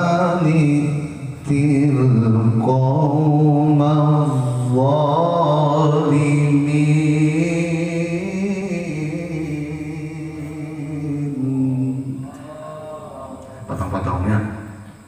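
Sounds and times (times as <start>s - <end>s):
man chanting into a microphone: 0.0s - 14.7s.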